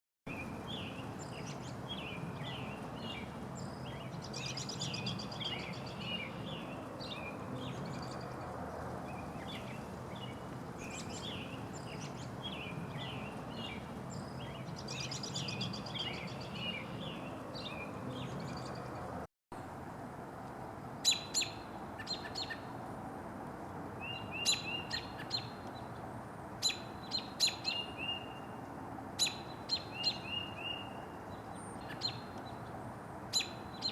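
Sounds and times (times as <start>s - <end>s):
songbirds singing: 0.3s - 19.2s, 21.0s - 22.7s, 24.0s - 33.9s.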